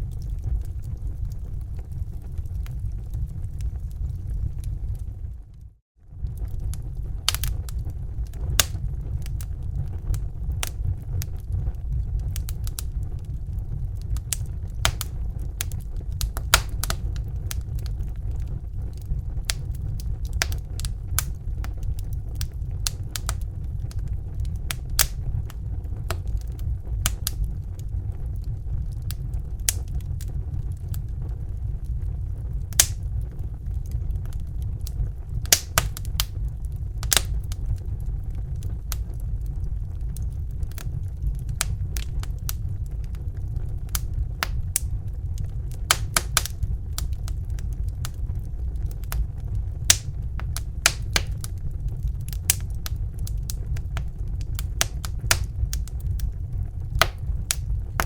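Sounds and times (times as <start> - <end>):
fire crackling and popping: 0.0 - 58.0
low rumble: 0.0 - 58.0.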